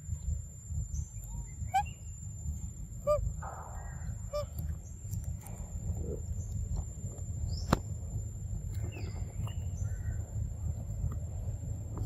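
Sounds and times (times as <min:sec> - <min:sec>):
faint chirps: 0:00.0 - 0:11.5
low rumble on microphone: 0:00.0 - 0:12.0.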